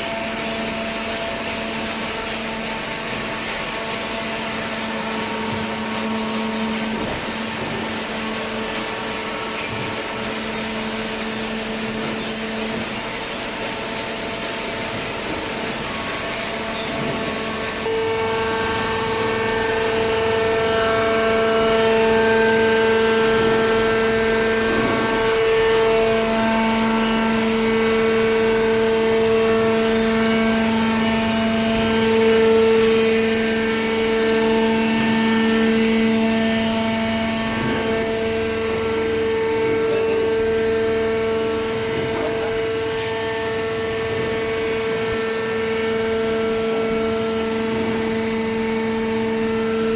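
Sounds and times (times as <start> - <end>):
hydraulic pump motor whine: 0.0 - 49.9.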